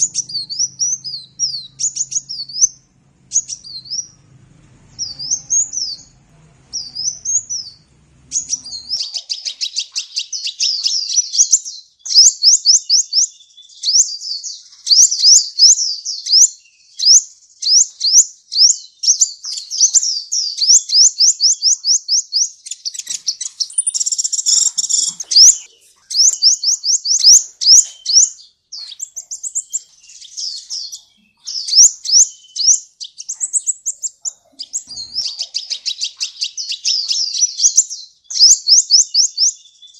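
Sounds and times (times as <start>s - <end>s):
sunbird singing rapid chatter: 0.0s - 39.9s.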